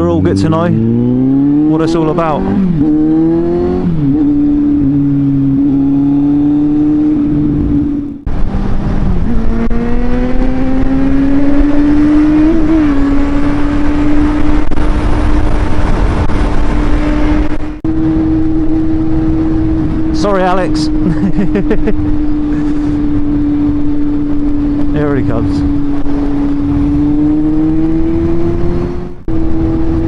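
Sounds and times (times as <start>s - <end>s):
motorcycle engine running: 0.0s - 30.0s
wind noise: 0.0s - 30.0s.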